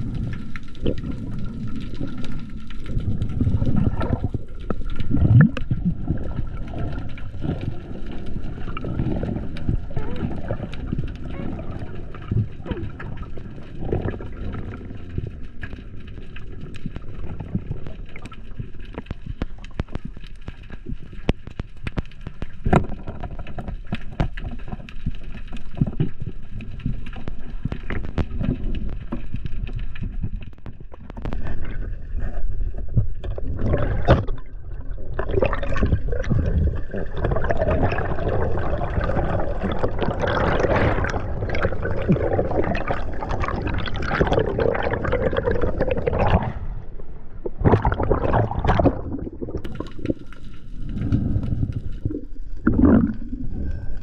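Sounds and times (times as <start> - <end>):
gurgling bubbles: 0.0 - 54.0
low underwater rumble: 0.0 - 54.0
underwater rushing water: 0.0 - 54.0.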